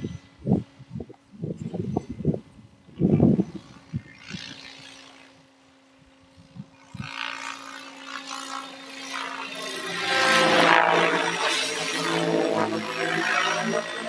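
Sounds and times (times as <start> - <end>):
rc helicopter motor and rotor whine: 0.0 - 14.0.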